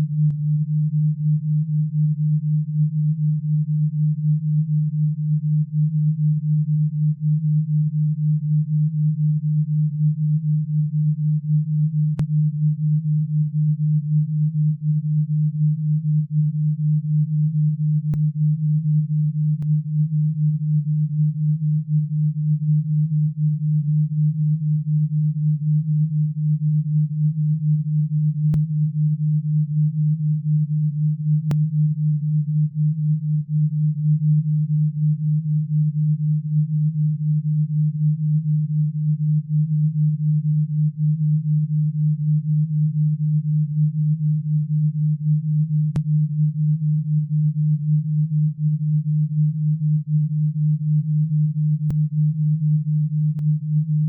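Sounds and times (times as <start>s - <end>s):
low throbbing pure tone: 0.0s - 54.0s.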